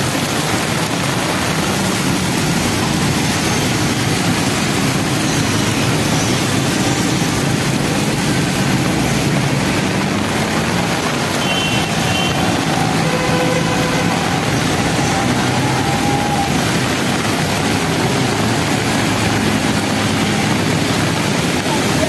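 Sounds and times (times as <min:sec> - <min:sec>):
engines humming: 0:00.0 - 0:22.0
heavy rain: 0:00.0 - 0:22.0
wet tyres on road: 0:00.0 - 0:22.0.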